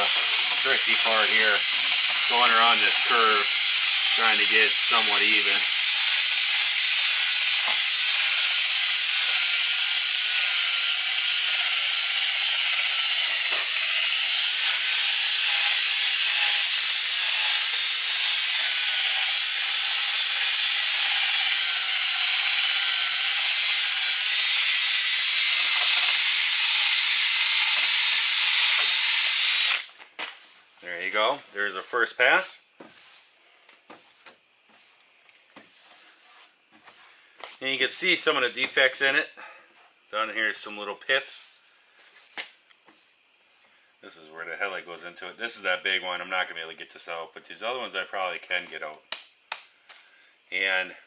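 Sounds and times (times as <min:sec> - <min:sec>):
sanding disc abrasive hiss: 0:00.0 - 0:38.8, 0:40.6 - 0:43.1.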